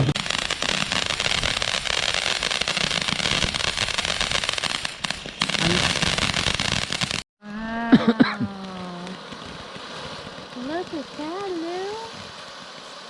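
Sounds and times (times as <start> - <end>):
fireworks crackling: 0.0 - 7.3, 8.3 - 13.0.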